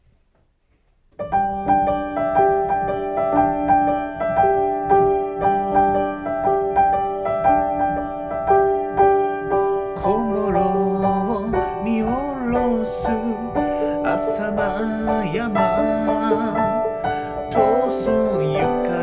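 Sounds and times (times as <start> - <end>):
solo piano chords and melody: 1.0 - 19.0.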